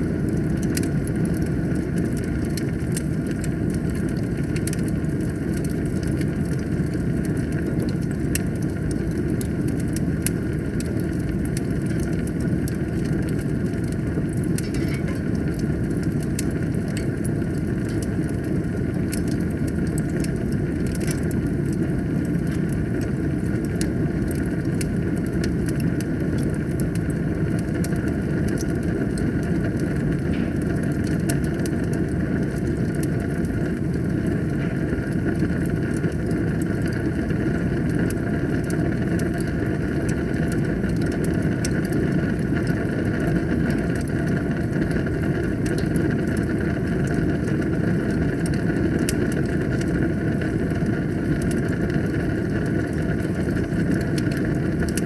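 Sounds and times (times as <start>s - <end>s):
fire burning in a fireplace: 0.0s - 55.0s.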